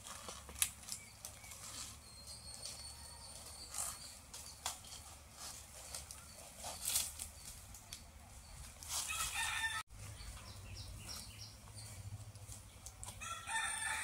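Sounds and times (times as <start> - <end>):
rustles and crackles: 0.0 - 14.0.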